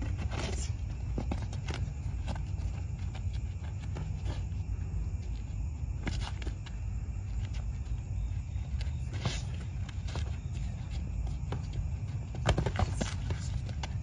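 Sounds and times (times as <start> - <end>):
crickets chirping: 0.0 - 14.0
feet scuffing on asphalt: 0.0 - 14.0.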